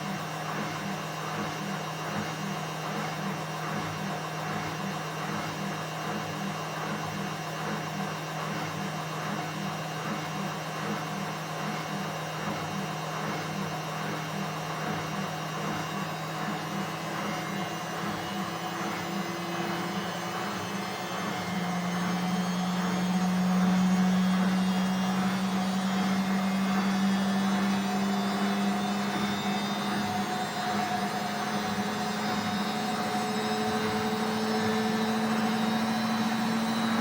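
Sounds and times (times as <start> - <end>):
washing machine motor humming: 0.0 - 37.0.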